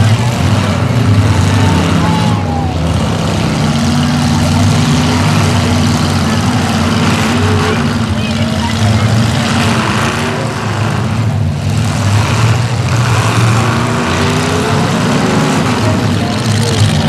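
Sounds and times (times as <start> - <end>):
loud unmuffled car engines: 0.0 - 17.0.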